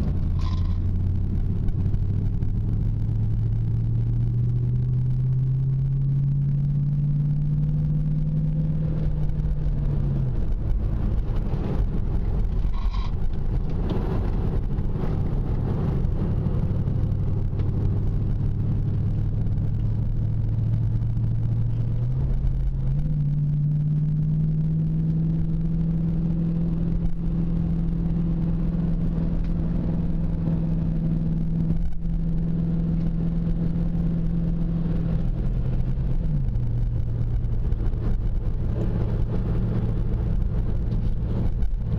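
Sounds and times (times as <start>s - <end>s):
car engine running from inside cabin: 0.0s - 41.9s.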